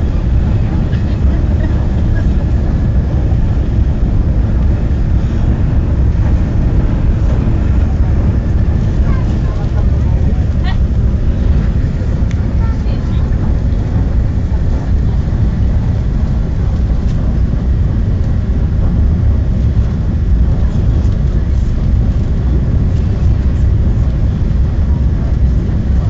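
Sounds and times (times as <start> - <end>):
train cabin rumble: 0.0 - 26.0.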